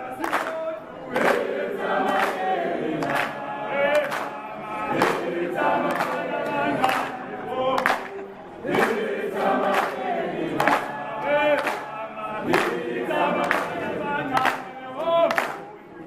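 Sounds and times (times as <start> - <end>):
hand claps: 0.0 - 15.8
crowd singing: 0.0 - 16.0.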